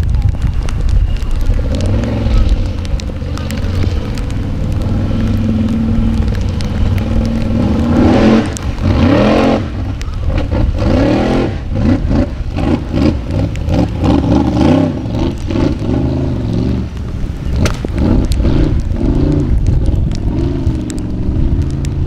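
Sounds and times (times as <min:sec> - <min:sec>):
buggy engine revving: 0:00.6 - 0:22.0.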